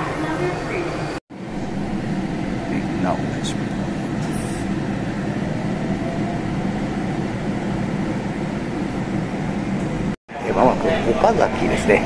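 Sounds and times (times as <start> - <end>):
low rumble of trains: 0.0 - 12.0.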